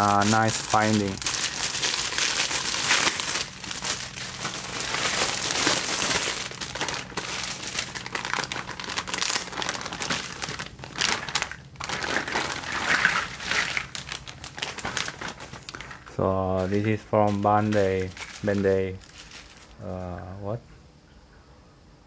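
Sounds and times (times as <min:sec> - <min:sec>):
plastic bags crinkling: 0:00.0 - 0:20.3.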